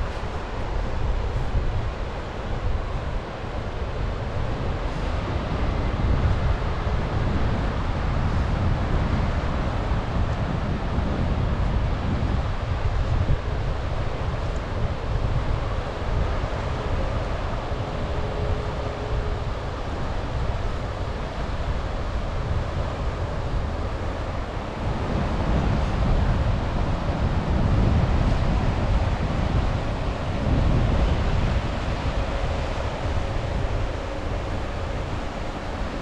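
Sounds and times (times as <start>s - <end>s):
sea waves washing ashore: 0.0s - 36.0s
wind buffeting microphone: 0.0s - 36.0s.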